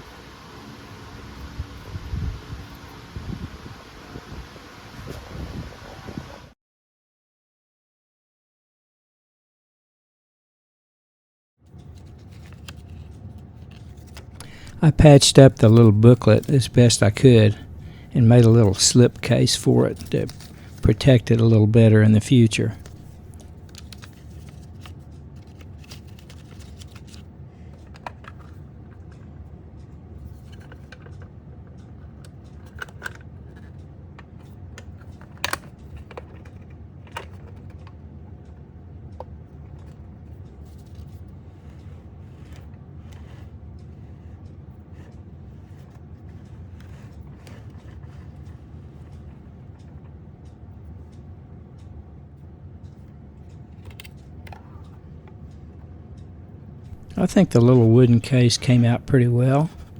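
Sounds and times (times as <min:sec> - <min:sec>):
steady low hum: 0:00.0 - 0:06.5, 0:11.7 - 0:32.5, 0:35.8 - 0:59.9.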